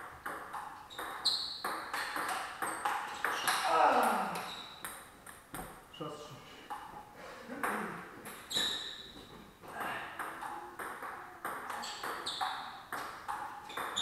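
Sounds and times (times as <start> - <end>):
table tennis ball pinging: 0.0 - 5.8, 7.6 - 14.0.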